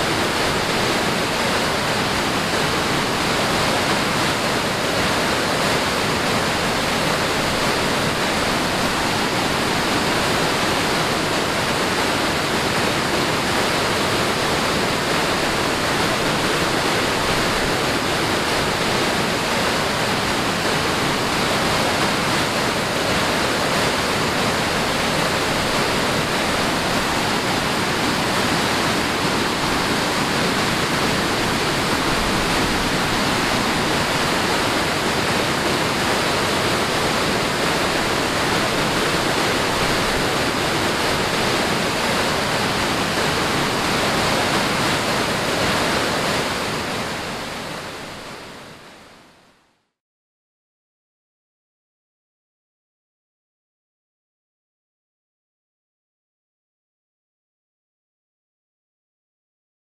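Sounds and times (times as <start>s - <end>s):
waterfall roaring: 0.0s - 49.8s.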